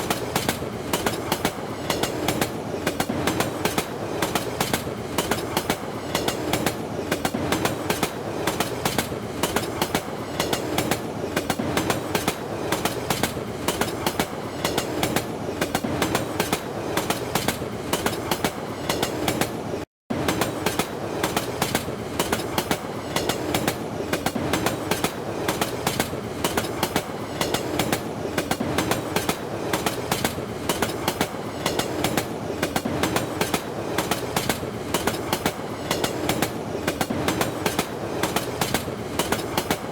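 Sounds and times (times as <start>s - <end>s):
train rumble: 0.0s - 39.9s
train wheels clattering over rail joints: 0.0s - 39.9s.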